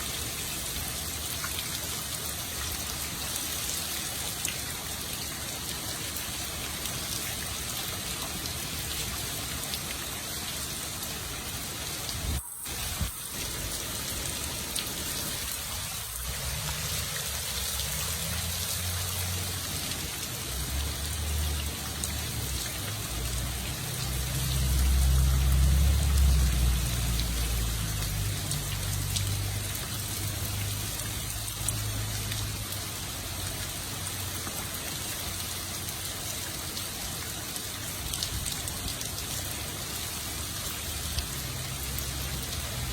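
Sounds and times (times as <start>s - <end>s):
hard rain falling: 0.0s - 42.9s.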